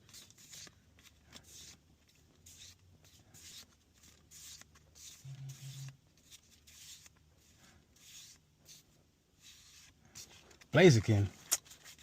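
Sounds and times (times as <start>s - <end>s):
cards sliding together: 0.0s - 10.7s, 11.3s - 12.0s.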